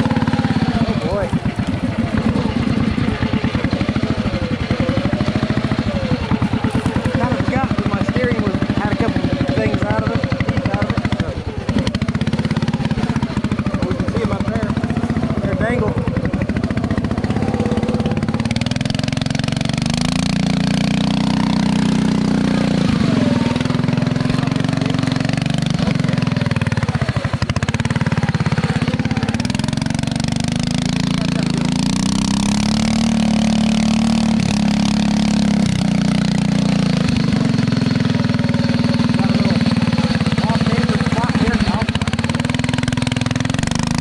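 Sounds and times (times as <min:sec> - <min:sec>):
lawn mower engine running: 0:00.0 - 0:44.0
rattling: 0:00.0 - 0:44.0.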